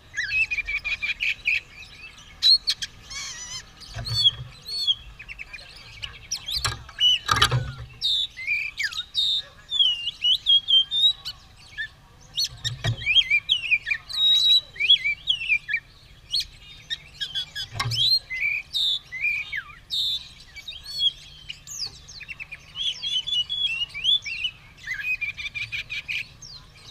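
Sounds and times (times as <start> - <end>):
bird singing whistles and trills: 0.0 - 26.9.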